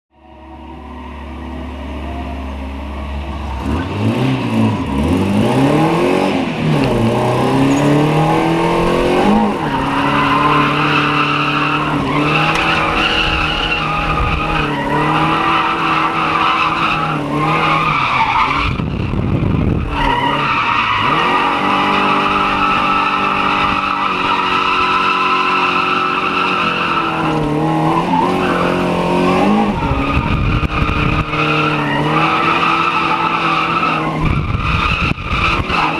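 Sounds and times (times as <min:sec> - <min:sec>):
car engine revving: 0:00.4 - 0:35.9.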